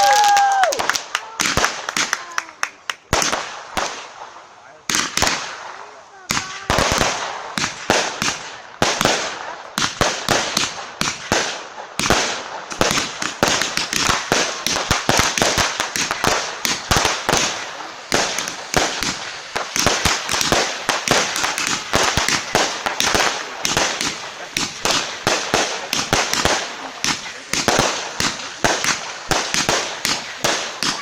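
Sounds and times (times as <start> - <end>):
fireworks bangs and crackle: 0.0 - 31.0.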